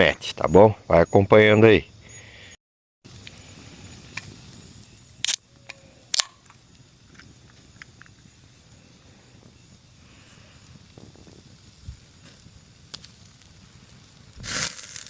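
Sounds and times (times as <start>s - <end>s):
background hiss: 0.0s - 2.5s, 3.1s - 15.0s.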